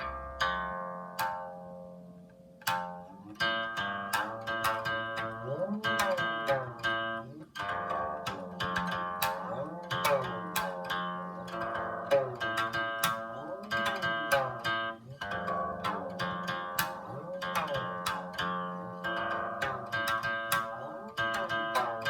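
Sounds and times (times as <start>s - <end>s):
plucked zither: 0.0s - 22.0s.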